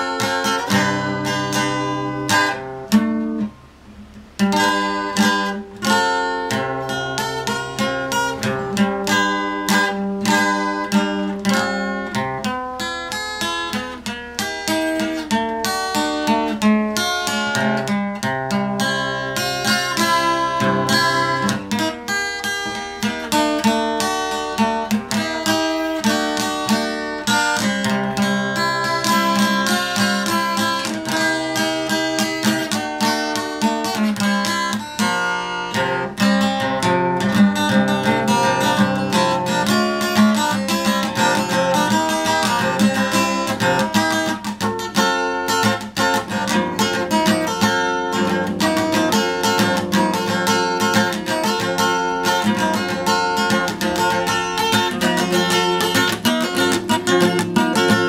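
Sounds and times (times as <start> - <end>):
acoustic guitar strummed: 0.0 - 58.0.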